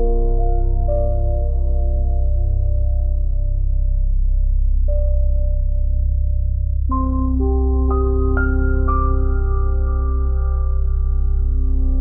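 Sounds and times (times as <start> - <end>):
deep ambient drone: 0.0 - 12.0.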